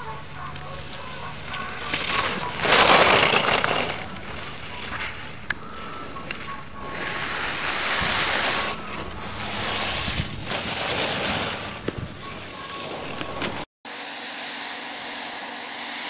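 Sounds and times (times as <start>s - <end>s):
skis carving on hard snow: 0.0s - 13.6s.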